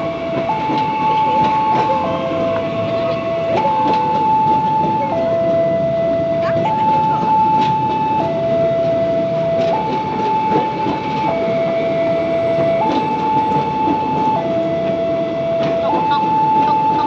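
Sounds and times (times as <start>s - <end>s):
two-tone electronic warning signal: 0.0s - 17.0s.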